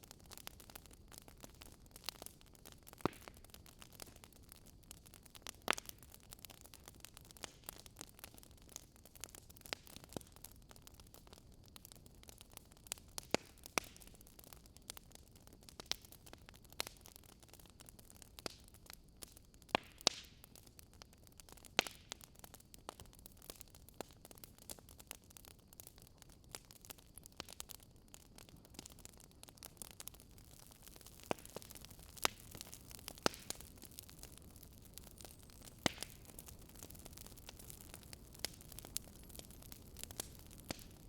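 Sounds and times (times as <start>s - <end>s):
faint steady hiss: 0.0s - 41.0s
wood crackling and popping: 0.0s - 41.0s.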